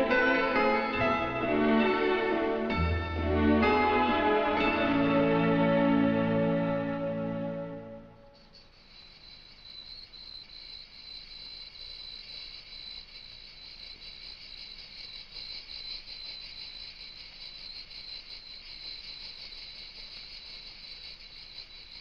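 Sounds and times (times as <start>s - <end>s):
insects chirping: 1.6s - 22.0s.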